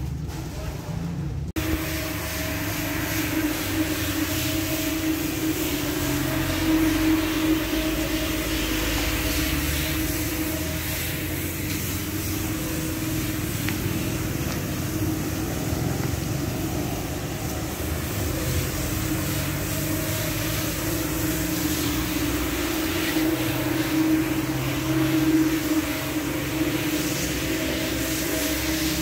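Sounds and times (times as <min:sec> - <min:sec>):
floor scrubber motor humming: 0:01.6 - 0:29.0.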